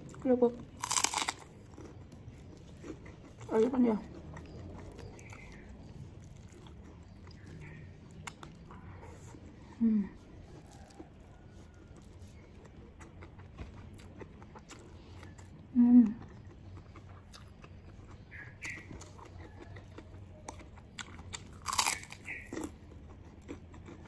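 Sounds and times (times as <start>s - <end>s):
cracker crunching: 0.0s - 9.6s, 10.3s - 24.0s
chewing and mouth clicks: 0.0s - 24.0s.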